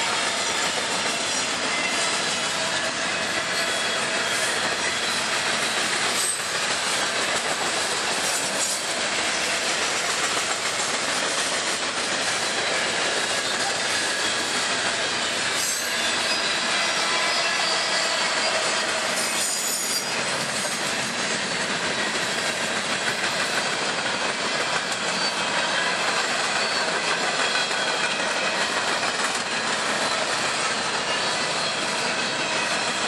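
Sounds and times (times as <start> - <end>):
steel wheels rumbling on rails: 0.0 - 33.0.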